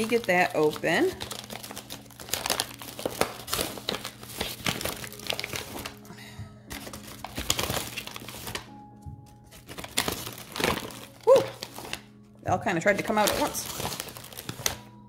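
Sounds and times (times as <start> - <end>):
plastic packaging crackling: 0.0 - 6.1, 6.7 - 8.8, 9.4 - 12.2, 12.8 - 15.0.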